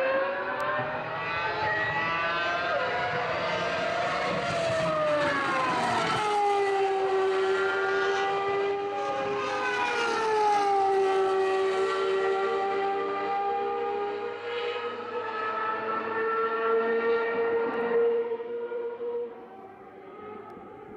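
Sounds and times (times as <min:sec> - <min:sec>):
racing car engine at high revs: 0:00.0 - 0:20.9.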